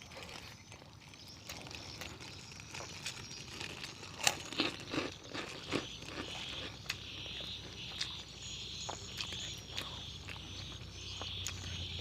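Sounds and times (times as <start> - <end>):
crunching and chewing fried chicken: 0.0 - 12.0.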